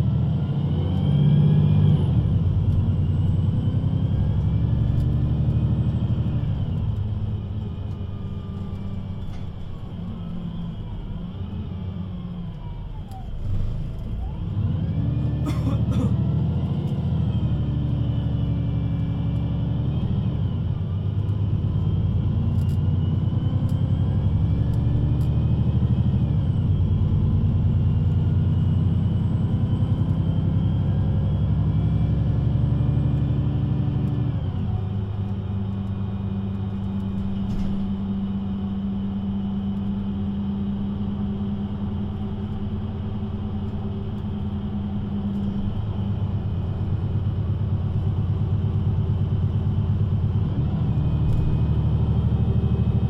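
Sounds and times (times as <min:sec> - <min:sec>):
bus engine pulling away: 0:00.0 - 0:53.0.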